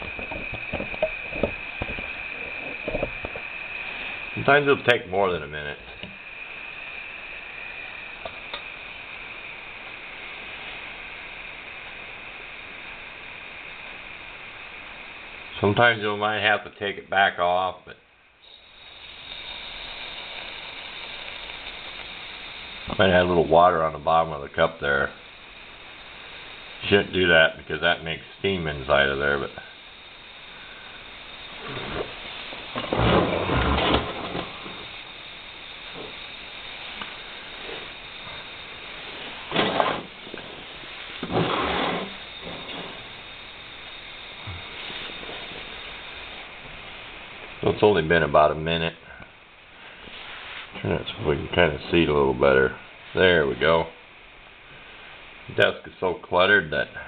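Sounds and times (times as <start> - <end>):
alcohol stove jets hissing: 0.0 - 57.0.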